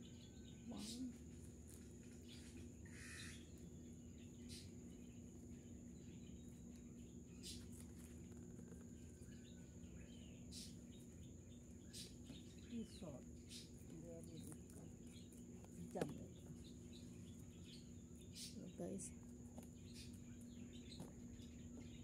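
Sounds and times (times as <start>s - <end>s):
bird chirps: 0.0s - 22.0s
high insect drone: 0.0s - 22.0s.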